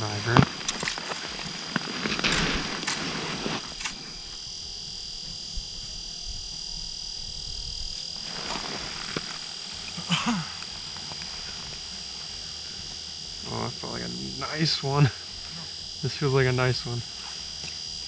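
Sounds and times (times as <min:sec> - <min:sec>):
snowsuit rustling: 0:00.0 - 0:07.2, 0:07.8 - 0:18.0.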